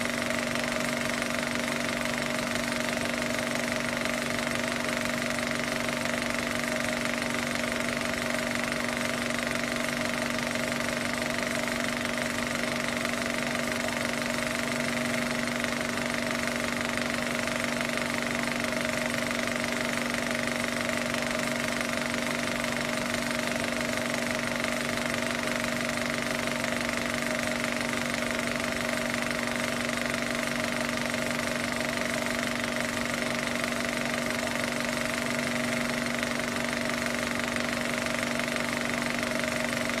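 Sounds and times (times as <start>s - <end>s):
film projector clattering: 0.0s - 40.0s.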